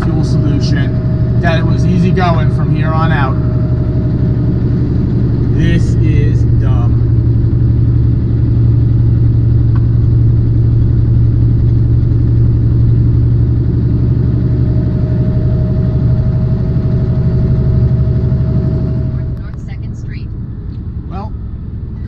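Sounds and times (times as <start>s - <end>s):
diesel truck engine drone: 0.0s - 22.0s
road noise: 0.0s - 22.0s.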